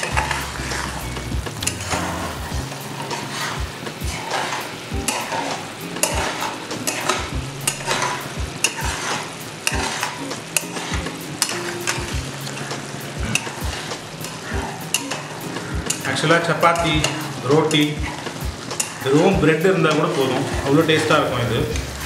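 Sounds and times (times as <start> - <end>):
food sizzling in oil: 0.0 - 22.0
metal spatula scraping pan: 0.0 - 22.0.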